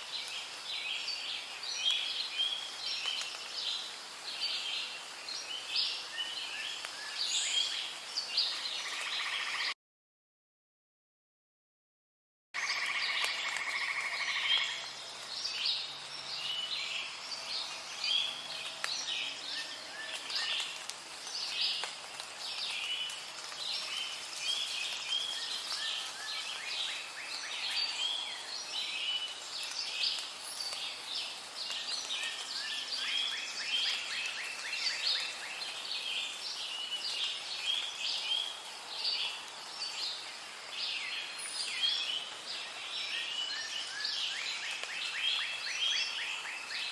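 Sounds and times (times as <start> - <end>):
birds chirping and trilling: 0.2 - 9.8, 12.6 - 46.9.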